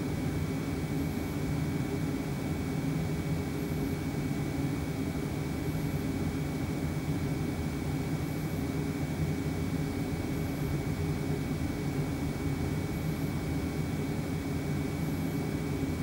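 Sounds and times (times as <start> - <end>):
blower fan whooshing hum: 0.0 - 16.0.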